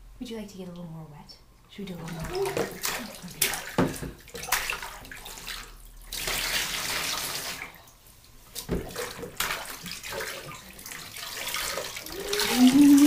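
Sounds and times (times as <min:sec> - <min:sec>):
water splashing and sloshing: 0:01.8 - 0:13.0.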